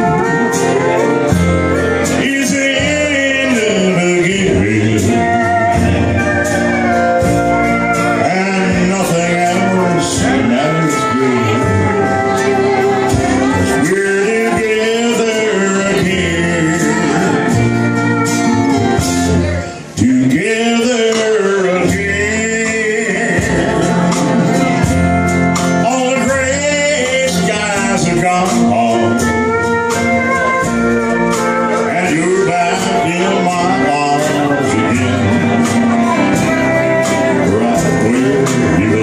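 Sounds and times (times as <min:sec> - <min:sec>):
country band playing: 0:00.0 - 0:39.0
man singing: 0:00.0 - 0:39.0
pedal steel guitar: 0:00.0 - 0:39.0.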